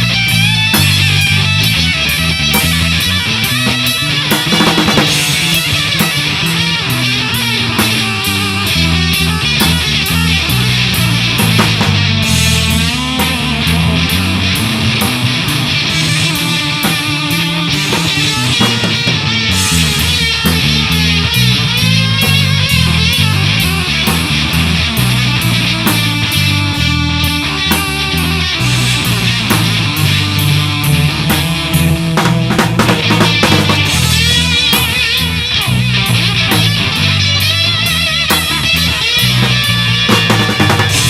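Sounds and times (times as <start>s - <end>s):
bass guitar: 0.0s - 41.0s
drum kit cymbal beat: 0.0s - 41.0s
electric guitar bent notes: 0.0s - 41.0s.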